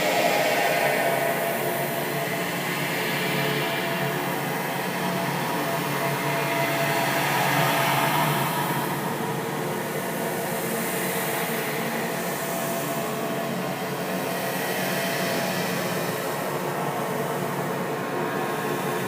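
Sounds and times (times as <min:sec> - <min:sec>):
eerie droning ambience: 0:00.0 - 0:19.0.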